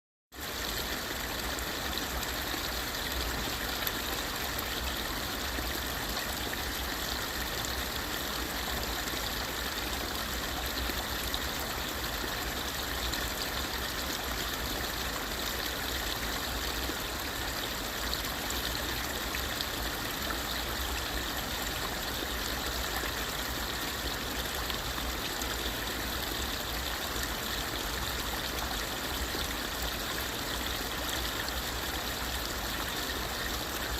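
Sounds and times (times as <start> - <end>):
stream water running: 0.4 - 33.9.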